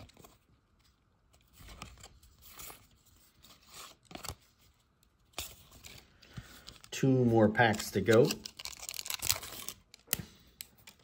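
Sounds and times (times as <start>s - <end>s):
cards rustling being thumbed: 0.0s - 11.0s.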